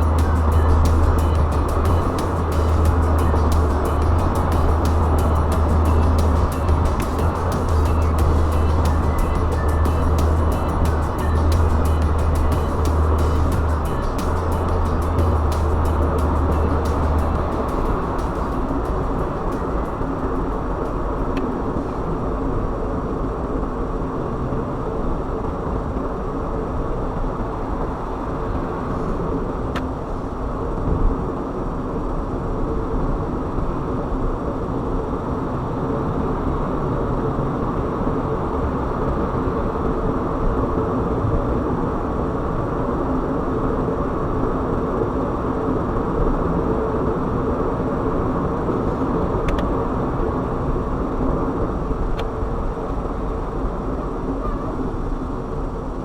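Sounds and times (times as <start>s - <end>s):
car tyre and engine noise: 0.0s - 56.0s.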